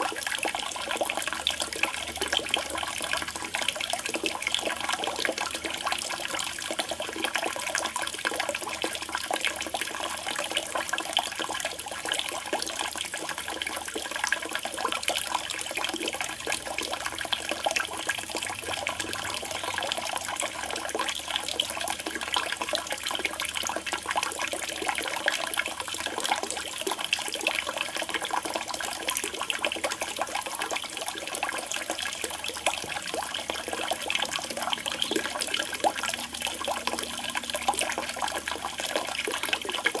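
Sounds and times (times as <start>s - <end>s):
water splashing into pond: 0.0s - 40.0s.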